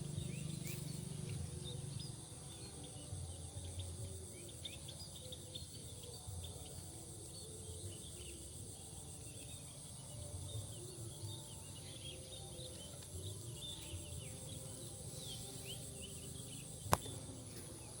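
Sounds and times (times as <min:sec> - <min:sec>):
crickets droning: 0:00.0 - 0:18.0.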